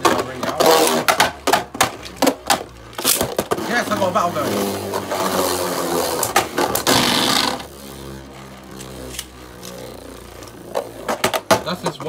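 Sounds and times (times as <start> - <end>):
spinning top whirring: 0.0 - 12.0.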